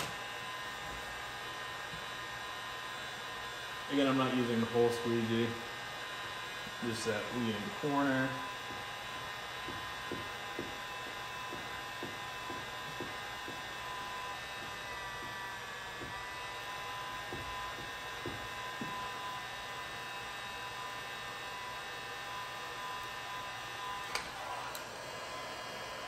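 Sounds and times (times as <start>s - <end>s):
heat gun fan whining: 0.0s - 26.0s.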